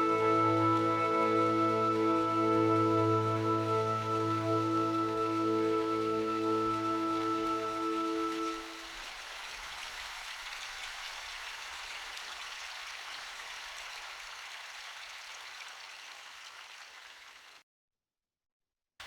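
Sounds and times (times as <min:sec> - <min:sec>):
steady rain falling: 0:00.0 - 0:17.6.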